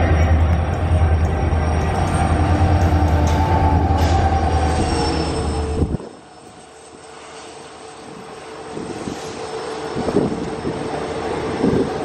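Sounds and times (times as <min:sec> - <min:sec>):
diesel locomotive engine running: 0:00.0 - 0:12.0
train wheels rolling on rail: 0:00.0 - 0:12.0.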